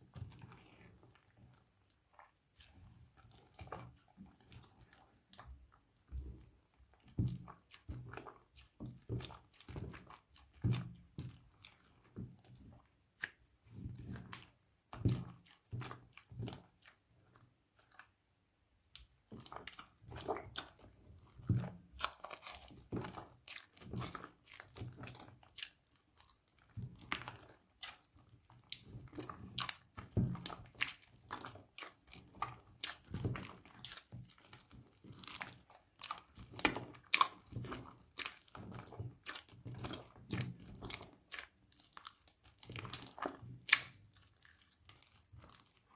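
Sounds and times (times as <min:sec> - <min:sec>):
slime squelching by hand: 0:00.0 - 0:45.9.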